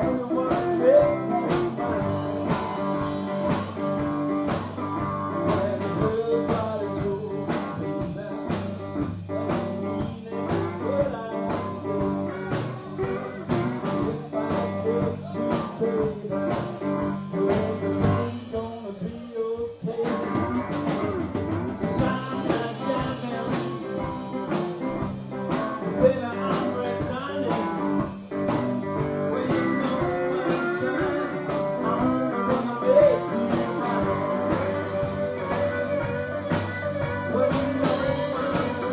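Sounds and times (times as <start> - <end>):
drum kit: 0.0 - 38.9
electric guitars: 0.0 - 38.9
man singing: 0.0 - 38.9.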